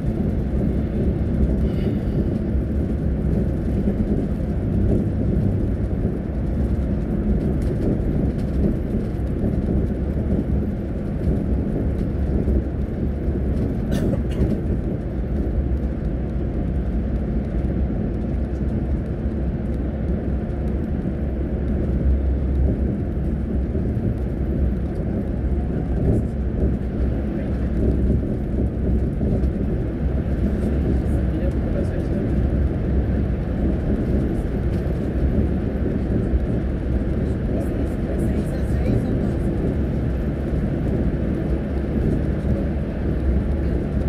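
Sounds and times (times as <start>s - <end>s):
bus engine and road rumble: 0.0s - 44.0s.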